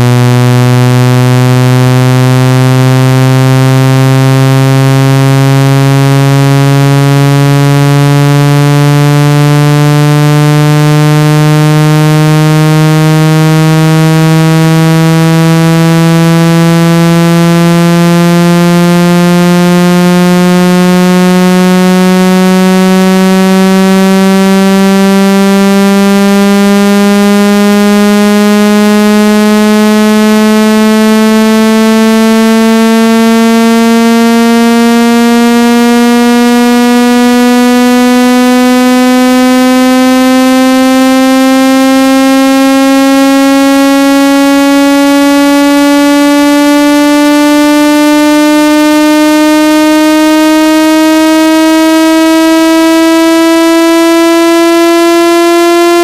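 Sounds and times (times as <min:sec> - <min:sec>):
buzzing tone gliding upward: 0:00.0 - 0:56.0.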